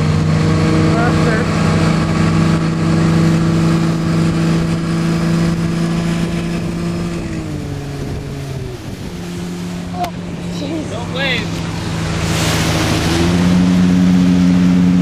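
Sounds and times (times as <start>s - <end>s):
motorboat engine: 0.0s - 15.0s
water rushing against hull: 0.0s - 15.0s.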